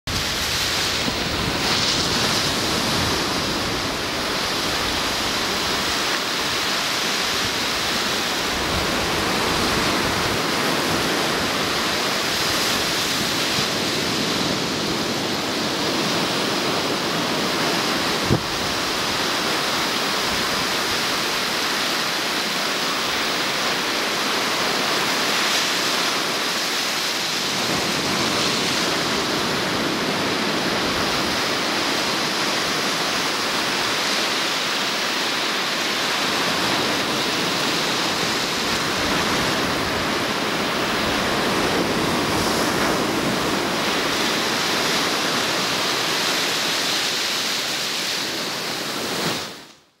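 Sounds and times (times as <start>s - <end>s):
ocean surf breaking on beach: 0.1s - 50.0s.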